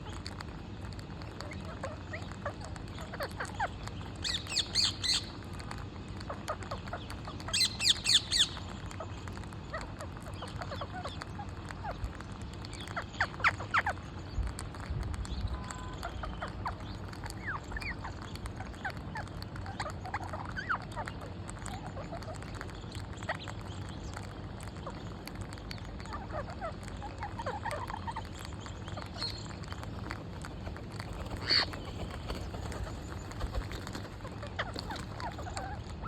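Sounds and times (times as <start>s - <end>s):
low steady hum: 0.0s - 36.0s
parrots chirping and chattering: 0.0s - 36.0s.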